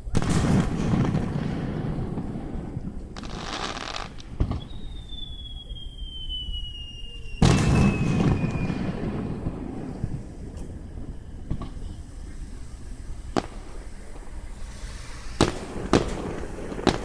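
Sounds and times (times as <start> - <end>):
firework bang: 0.0 - 17.0
firework boom rumbling: 0.0 - 17.0
fireworks crackling: 0.0 - 17.0
firework whistle falling: 3.1 - 17.0.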